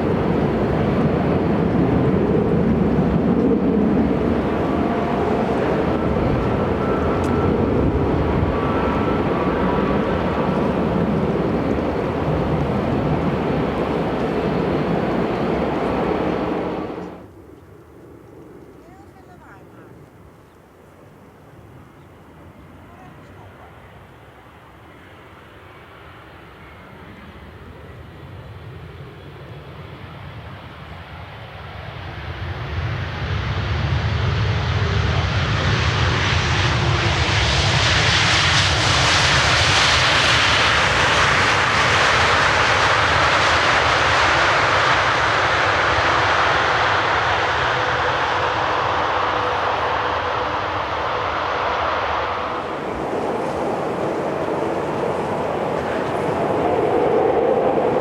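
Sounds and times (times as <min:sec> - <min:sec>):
jet airliner engines roaring: 0:00.0 - 0:58.0.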